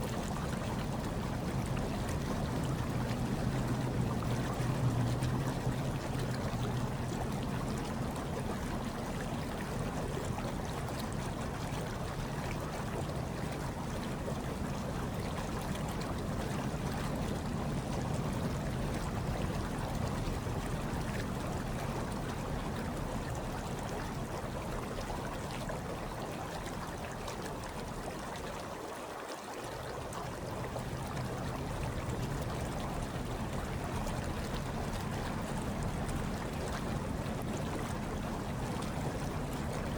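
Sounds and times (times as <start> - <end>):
hot tub water bubbling: 0.0 - 39.9.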